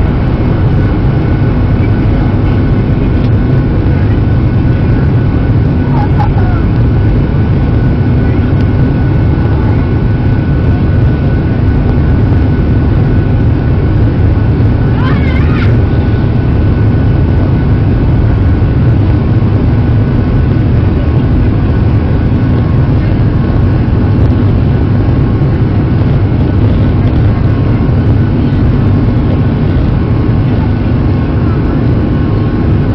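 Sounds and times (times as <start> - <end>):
faint steady engine whine: 0.0 - 32.9
jet engine rumble in cabin: 0.0 - 32.9.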